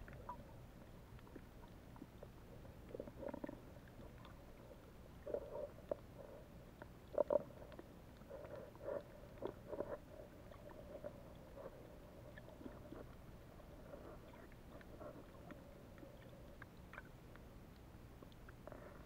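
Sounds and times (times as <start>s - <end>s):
low underwater hum: 0.0s - 19.0s
soft underwater clicks and ticks: 0.0s - 19.0s.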